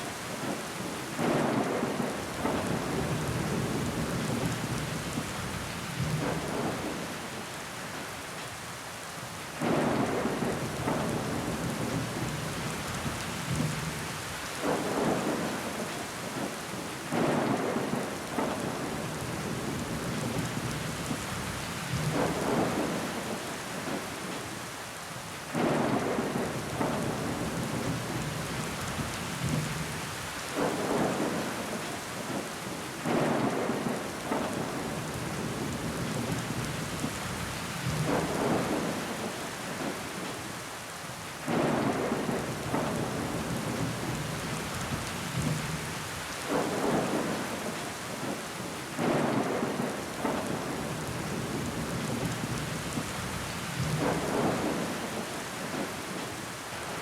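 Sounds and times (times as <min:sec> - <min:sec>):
rain pattering on window glass: 0:00.0 - 0:07.5, 0:09.6 - 0:24.7, 0:25.5 - 0:40.6, 0:41.4 - 0:56.5.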